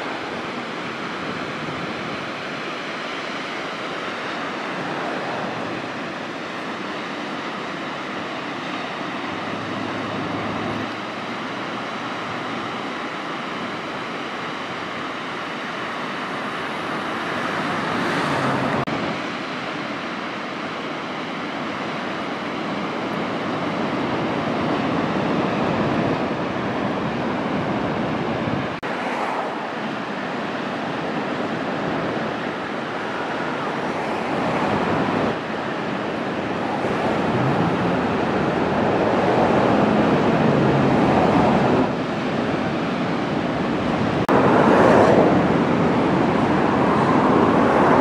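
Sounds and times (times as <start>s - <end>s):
ocean surf breaking: 0.0s - 48.0s.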